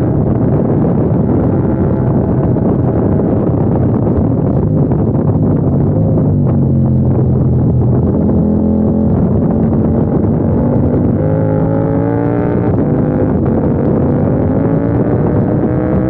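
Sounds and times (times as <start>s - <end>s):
motorcycle engine running hard: 0.0s - 16.0s.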